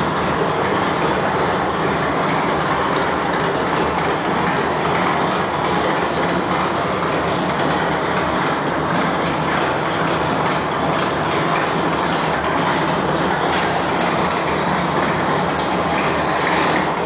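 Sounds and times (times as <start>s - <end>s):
loud engine running: 0.0s - 17.0s.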